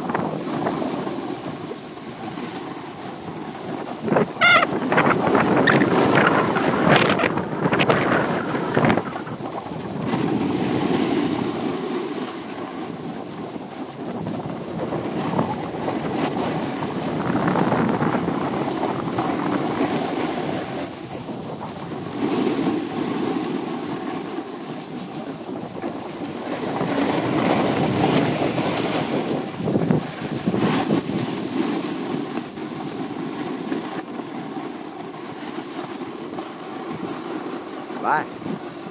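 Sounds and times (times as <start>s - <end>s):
snowboard scraping over snow: 0.0s - 38.9s
wind on microphone: 0.0s - 38.9s.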